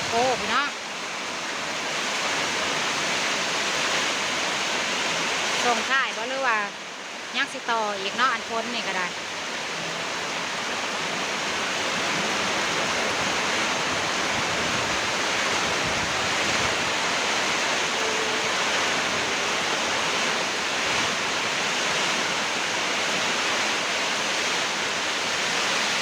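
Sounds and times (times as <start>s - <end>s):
rain: 0.0s - 26.0s
wind: 0.0s - 26.0s.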